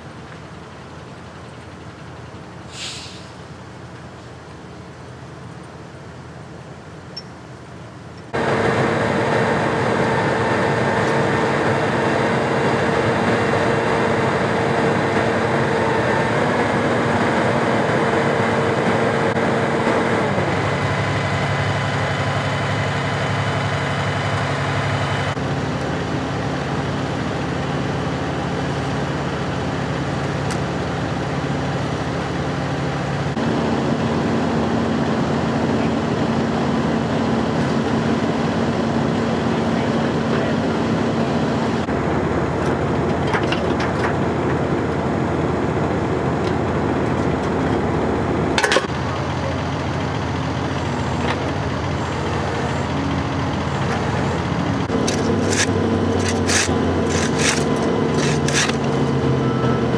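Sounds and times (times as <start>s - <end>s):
vehicle engines idling: 0.0s - 59.9s.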